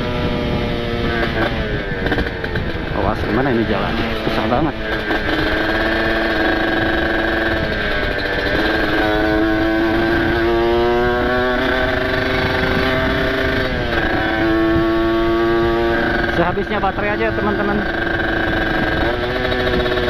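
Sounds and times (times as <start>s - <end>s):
two-stroke motorcycle engine: 0.0s - 20.0s.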